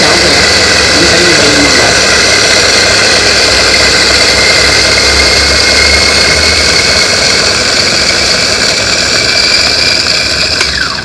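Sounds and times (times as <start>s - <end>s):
electric coffee grinder grinding: 0.0s - 11.0s.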